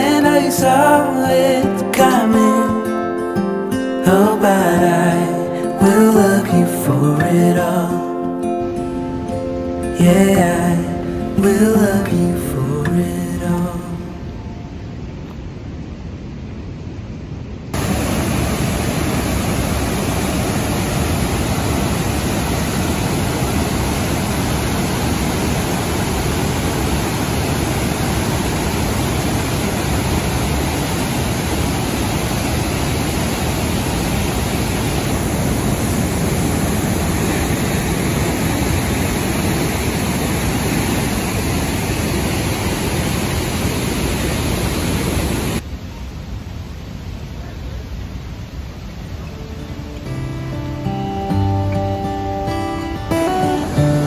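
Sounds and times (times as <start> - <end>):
waterfall rushing roar: 0.0 - 15.2, 17.6 - 54.0.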